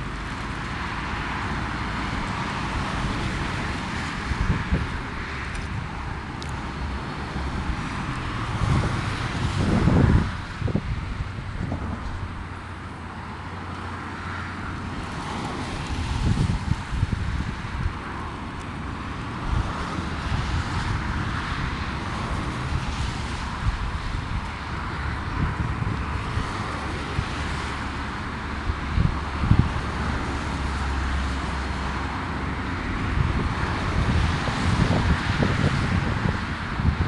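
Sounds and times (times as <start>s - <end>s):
distant car moving: 0.0s - 37.0s
wind buffeting microphone: 0.0s - 37.0s.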